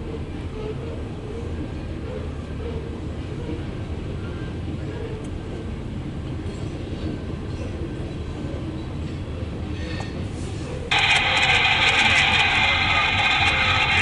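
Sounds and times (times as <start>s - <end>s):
train wheels rumbling on rails: 0.1s - 14.0s.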